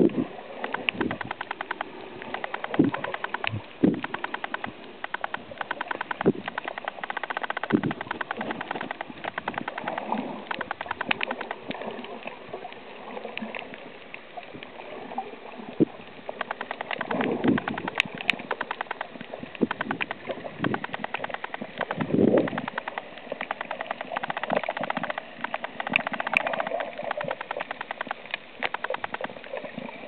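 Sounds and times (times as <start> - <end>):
underwater crackle of clicks: 0.0 - 30.0.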